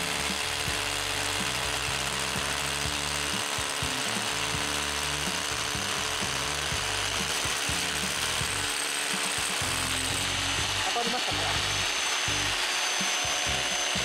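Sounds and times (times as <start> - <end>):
hammer drill drilling: 0.0 - 14.0.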